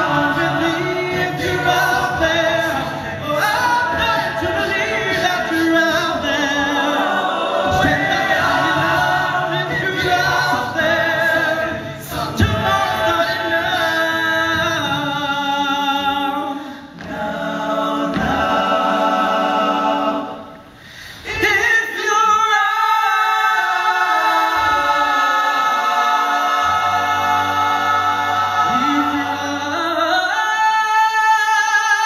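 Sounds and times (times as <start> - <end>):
male a cappella group singing: 0.0 - 32.0.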